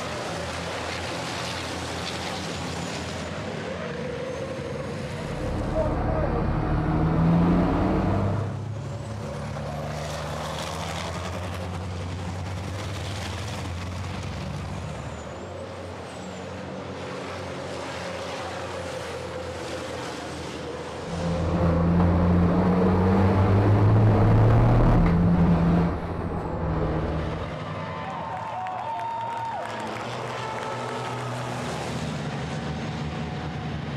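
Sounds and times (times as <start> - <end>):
truck engines racing: 0.0 - 33.9.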